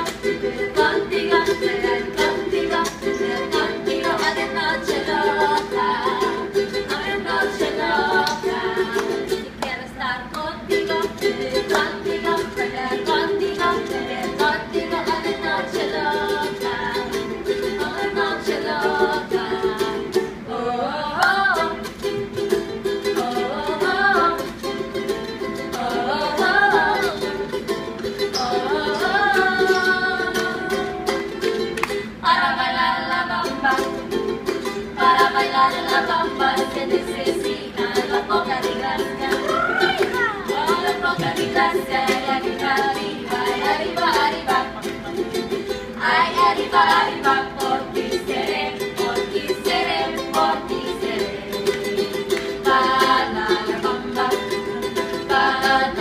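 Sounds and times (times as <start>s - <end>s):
strummed ukulele: 0.0s - 56.0s
women singing together: 0.0s - 56.0s.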